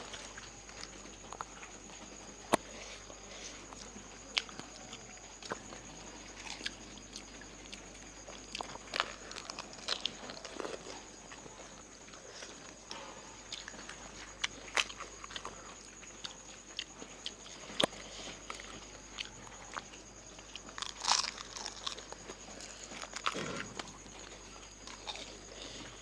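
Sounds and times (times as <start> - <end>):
people chewing crunchy shells: 0.0 - 26.0.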